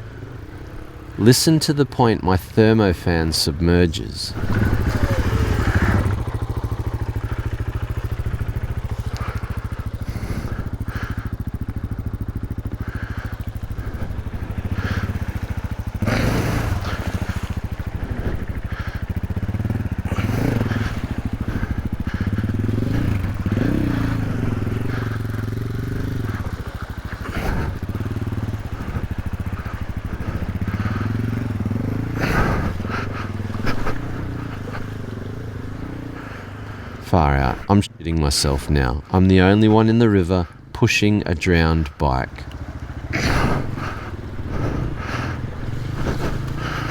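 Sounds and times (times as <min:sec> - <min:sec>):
water splashing: 0:00.0 - 0:37.0, 0:41.6 - 0:46.9
dirt bike engine at low revs: 0:00.0 - 0:46.9.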